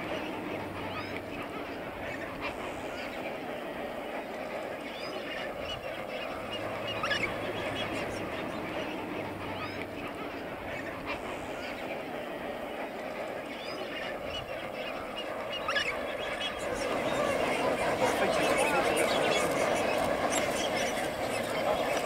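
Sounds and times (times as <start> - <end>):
flamingos honking: 0.0 - 22.0.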